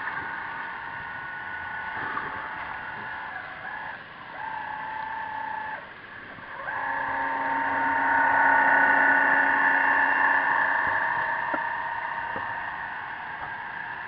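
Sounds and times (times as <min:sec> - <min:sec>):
electric motor whine underwater: 0:00.0 - 0:14.0.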